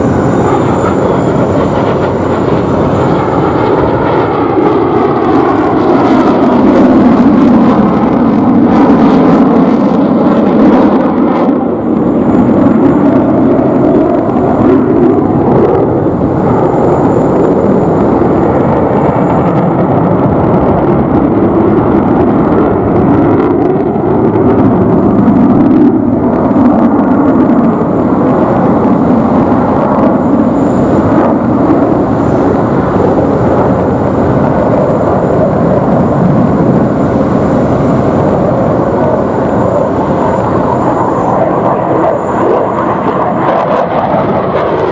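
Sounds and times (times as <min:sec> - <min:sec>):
jet engine noise in flight: 0:00.0 - 0:44.9.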